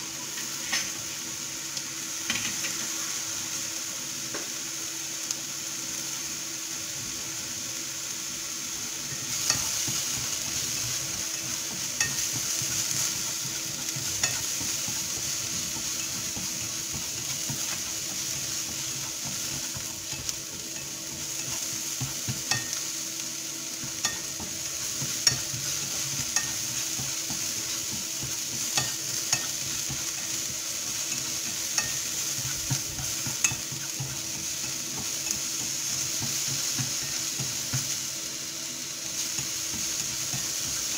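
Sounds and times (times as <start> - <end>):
mushrooms sizzling in a pan: 0.0 - 40.9.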